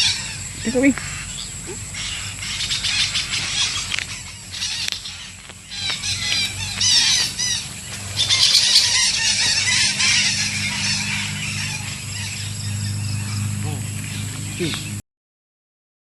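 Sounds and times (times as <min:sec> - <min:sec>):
parakeets calling: 0:00.0 - 0:15.0.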